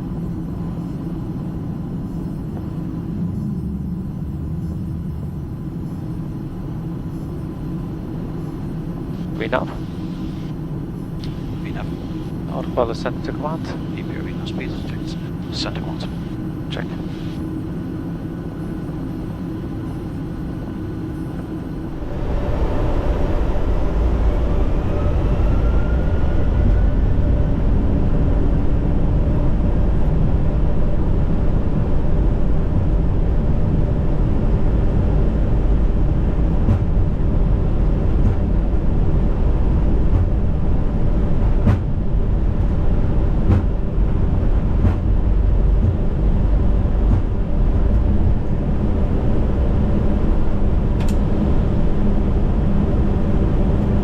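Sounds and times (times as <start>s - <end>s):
cockpit airflow and engine rumble: 0.0s - 54.0s.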